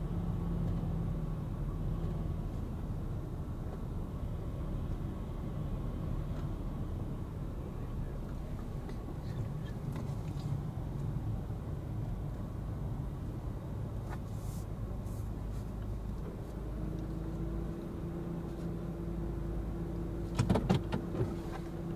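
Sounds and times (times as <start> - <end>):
engine and road rumble: 0.0 - 21.9.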